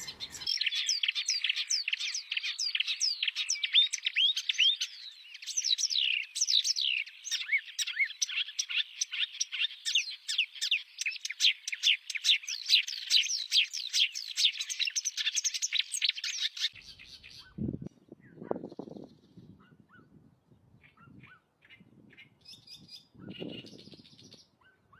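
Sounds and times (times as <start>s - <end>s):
reed warbler singing: 0.0s - 19.6s, 20.8s - 24.6s.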